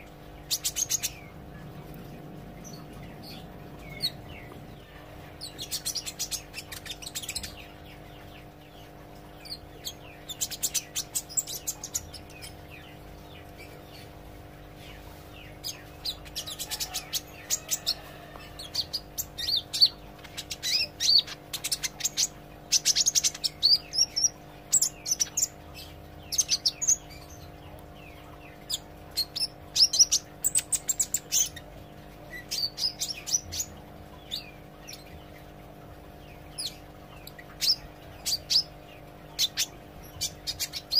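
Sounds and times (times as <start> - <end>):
bird chirping and twittering: 0.0 - 40.9
low electrical hum: 0.0 - 40.9.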